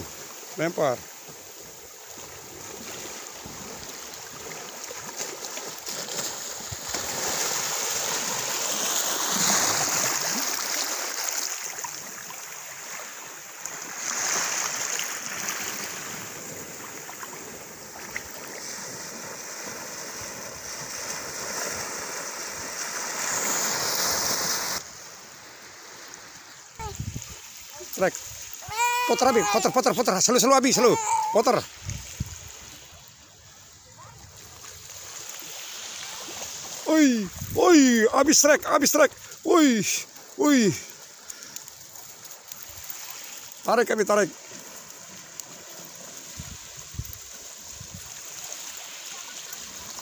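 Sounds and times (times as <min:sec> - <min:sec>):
small waves washing on beach: 0:00.0 - 0:50.0.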